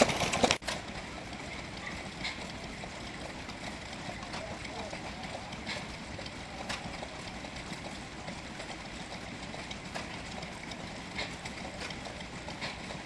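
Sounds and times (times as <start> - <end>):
sharp engine clicks: 0.0 - 13.0
stationary engine rumbling: 0.0 - 13.0.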